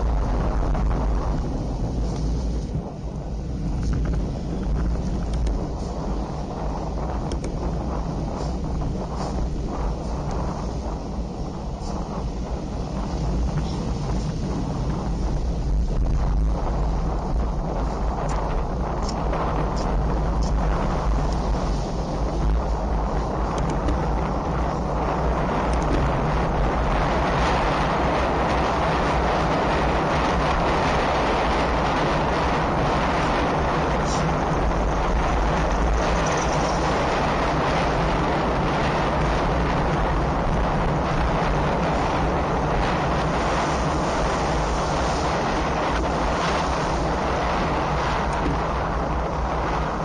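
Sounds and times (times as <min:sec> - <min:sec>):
constant low rumble: 0:00.0 - 0:50.0
wind rush over microphone: 0:00.0 - 0:50.0.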